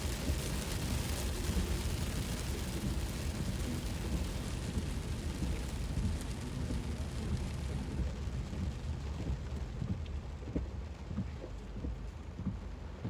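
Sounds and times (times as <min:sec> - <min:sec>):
heavy rain on a car: 0:00.0 - 0:13.0.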